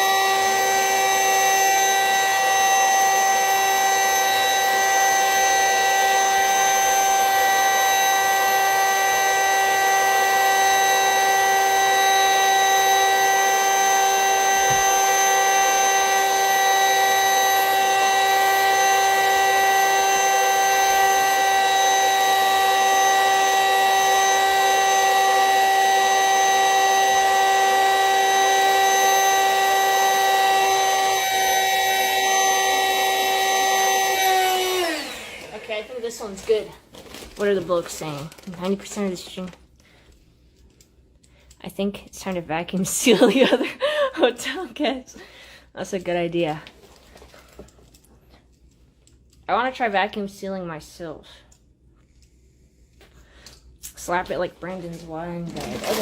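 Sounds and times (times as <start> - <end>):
vacuum cleaner whining: 0.0 - 40.1, 42.4 - 48.5, 53.0 - 56.0.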